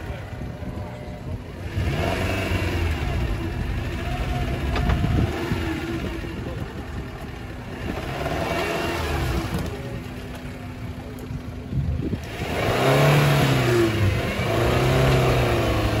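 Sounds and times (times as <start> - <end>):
car engine revving: 1.2 - 10.4, 12.1 - 16.0.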